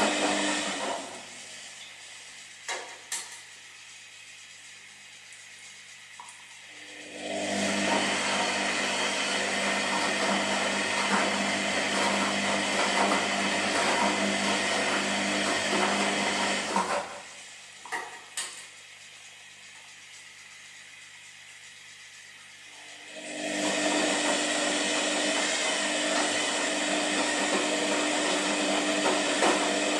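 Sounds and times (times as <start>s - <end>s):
faint motor hum: 0.0s - 29.9s
washing machine whirring: 0.0s - 29.9s.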